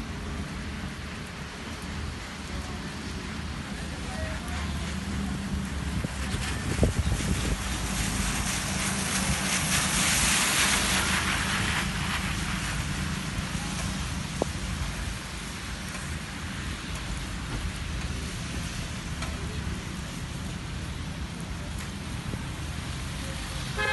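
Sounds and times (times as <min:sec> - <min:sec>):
steady rain hiss: 0:00.0 - 0:23.9.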